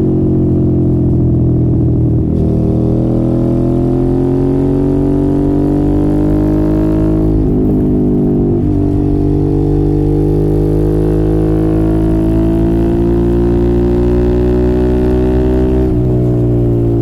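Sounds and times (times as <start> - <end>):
motorcycle engine under load: 0.0 - 17.0.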